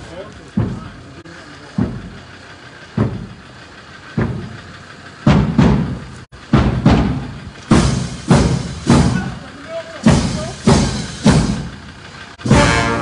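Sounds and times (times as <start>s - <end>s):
marching drums beating: 0.0s - 13.0s.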